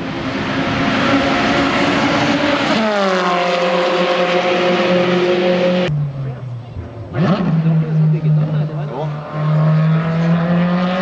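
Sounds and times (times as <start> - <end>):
sports cars driving past: 0.0 - 11.0.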